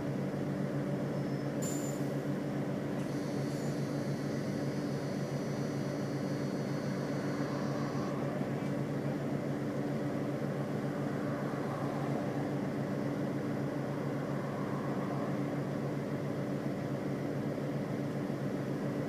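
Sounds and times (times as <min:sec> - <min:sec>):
diesel bus engine humming: 0:00.0 - 0:19.0.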